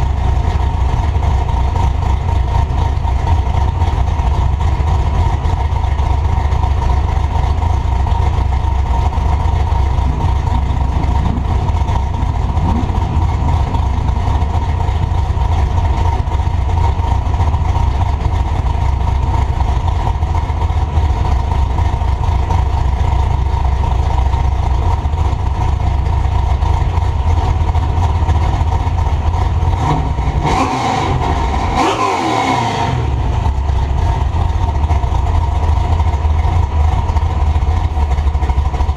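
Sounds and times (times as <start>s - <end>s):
truck engine rumbling: 0.0s - 31.9s, 32.8s - 38.9s.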